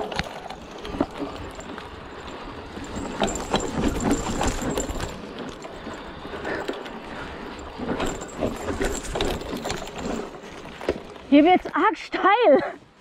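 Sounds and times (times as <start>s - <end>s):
bike knocking and rattling: 0.0s - 12.0s.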